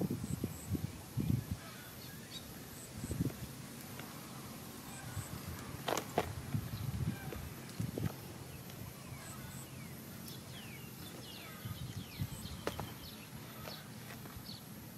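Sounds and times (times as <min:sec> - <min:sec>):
small birds chirping: 0:00.2 - 0:14.9.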